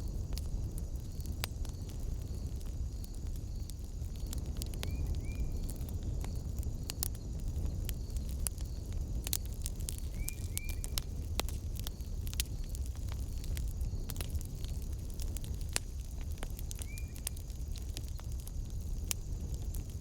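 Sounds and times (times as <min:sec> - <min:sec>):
fire crackles and pops: 0:00.0 - 0:20.0
fire low rumble: 0:00.0 - 0:20.0.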